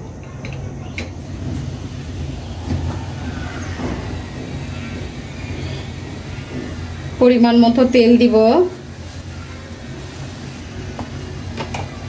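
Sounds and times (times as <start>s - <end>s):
gas burner rumble: 0.0s - 12.0s.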